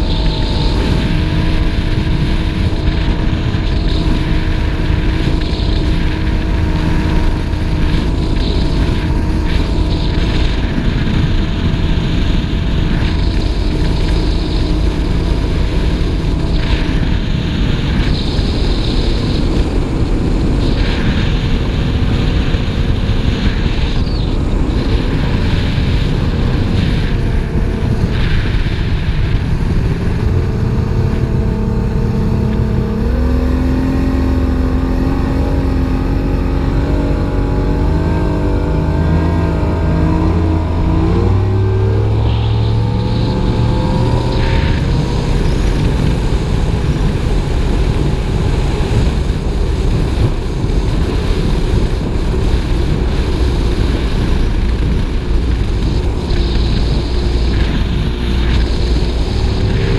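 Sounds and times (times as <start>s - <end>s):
rushing noise: 0.0s - 59.9s
speedboat engine running: 0.0s - 59.9s
wind buffeting microphone: 0.0s - 59.9s.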